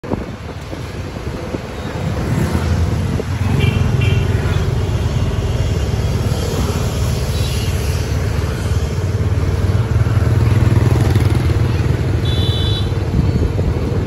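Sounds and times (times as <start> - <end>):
road noise: 0.0 - 14.0
scooter engines droning: 0.3 - 14.0.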